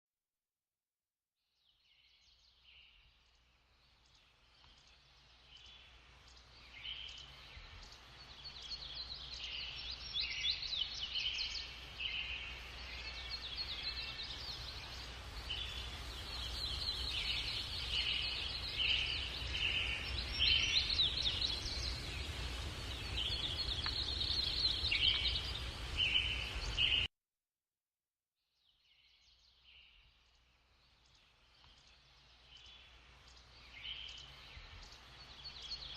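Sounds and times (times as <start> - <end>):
small birds chirping and trilling: 1.6 - 27.1, 28.6 - 35.9.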